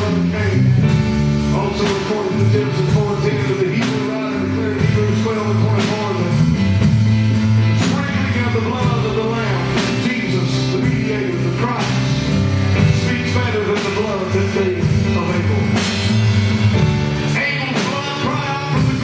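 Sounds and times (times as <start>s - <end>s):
bass guitar: 0.0s - 19.0s
live gospel band: 0.0s - 19.0s
piano: 0.0s - 19.0s.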